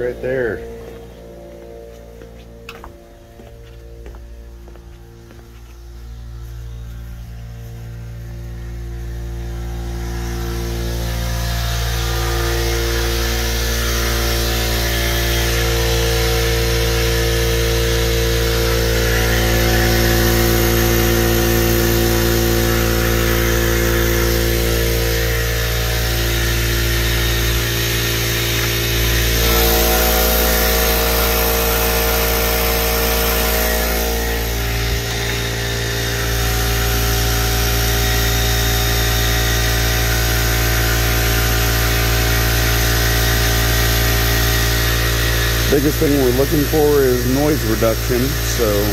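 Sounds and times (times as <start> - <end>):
air compressor running: 0.0 - 48.9.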